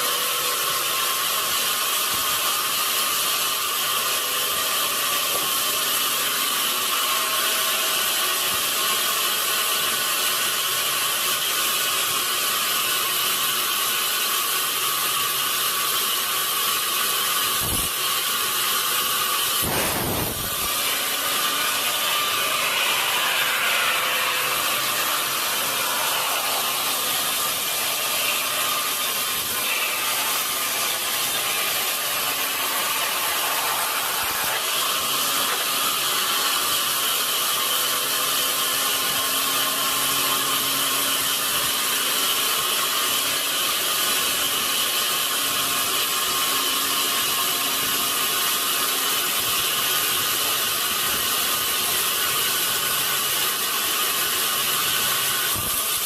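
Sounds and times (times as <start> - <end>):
high saw whine: 0.0 - 12.8, 16.0 - 56.0
saw cutting through log: 0.0 - 56.0.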